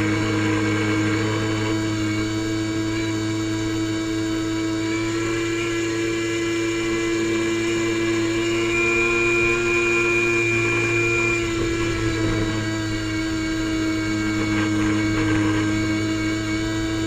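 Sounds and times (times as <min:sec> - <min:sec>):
airboat engine and propeller: 0:00.0 - 0:17.0.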